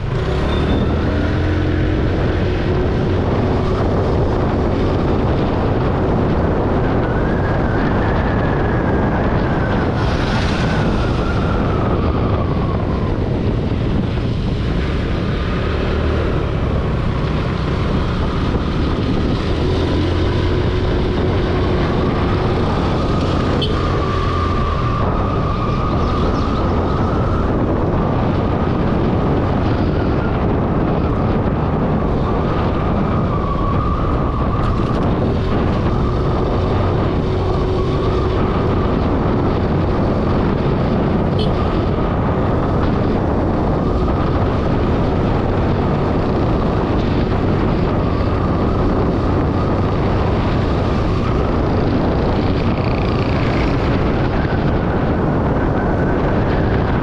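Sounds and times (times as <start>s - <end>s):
road noise: 0.0s - 57.0s
wind rushing on microphone: 0.0s - 57.0s.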